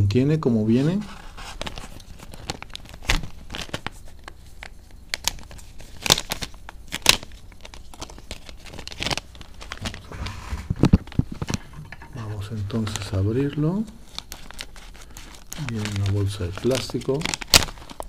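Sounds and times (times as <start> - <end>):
plastic bag crinkling: 0.8 - 18.0.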